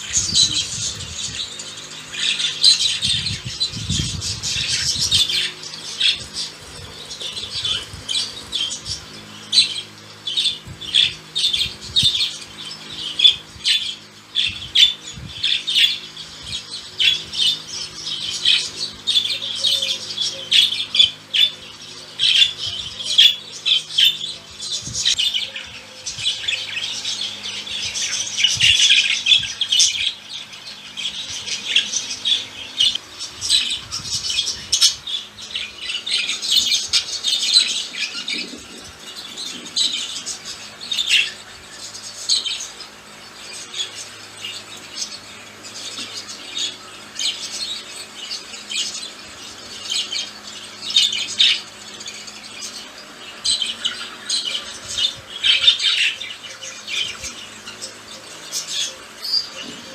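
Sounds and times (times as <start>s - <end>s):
budgerigars squawking and warbling: 0.0s - 59.9s.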